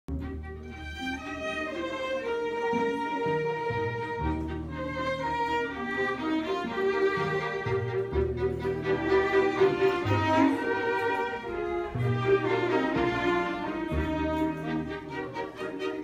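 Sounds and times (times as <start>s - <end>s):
string ensemble playing: 0.1s - 16.0s.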